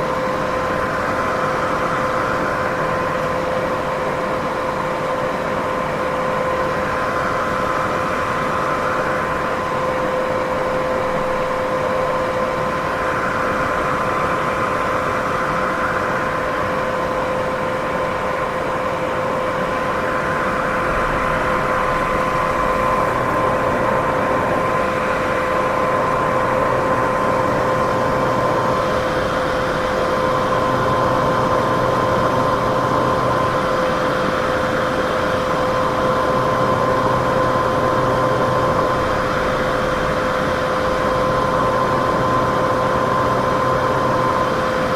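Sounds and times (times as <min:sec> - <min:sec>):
machine-like hum tone: 0:00.0 - 0:44.9.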